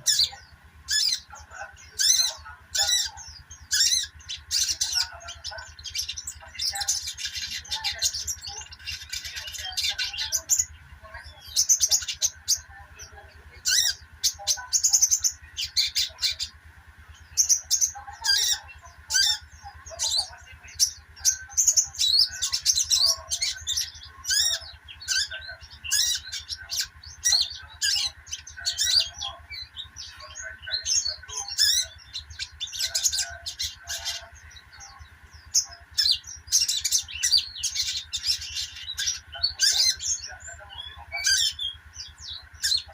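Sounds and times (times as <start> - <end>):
bird chattering chirps and trills: 0.0 - 42.9
low steady hum: 0.0 - 42.9.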